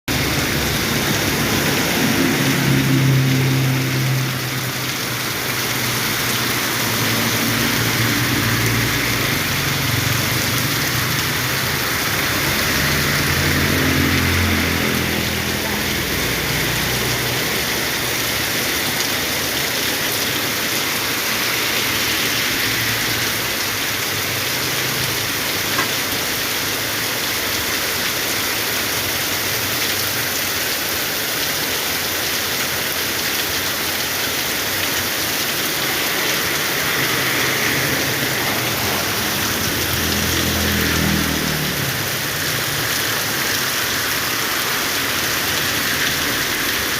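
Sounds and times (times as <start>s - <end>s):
heavy rain pouring: 0.1s - 46.9s.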